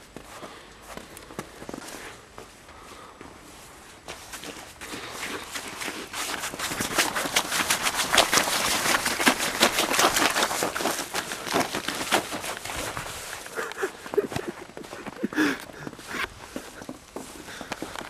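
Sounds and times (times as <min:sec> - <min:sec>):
snow crunching: 0:00.0 - 0:18.0.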